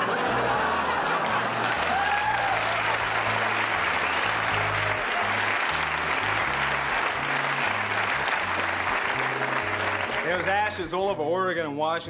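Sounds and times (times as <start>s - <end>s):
audience applauding: 0.0s - 10.8s
band music: 0.0s - 12.0s.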